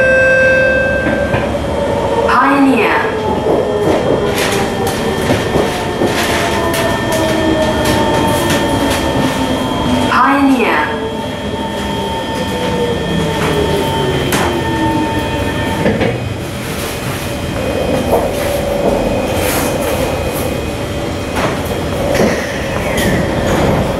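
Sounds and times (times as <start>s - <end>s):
metro train whine: 0.0s - 23.9s
train rumble: 0.0s - 23.9s.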